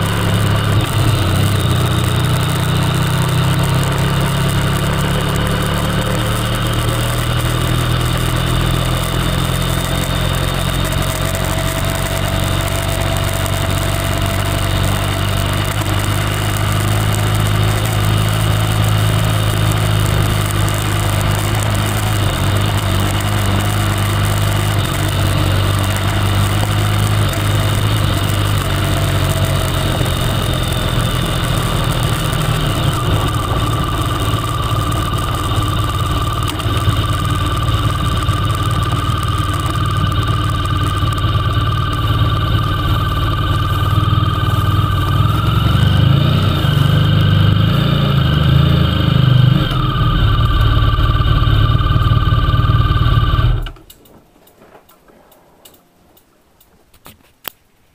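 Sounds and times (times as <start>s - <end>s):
motorcycle engine running steadily: 0.0s - 54.2s.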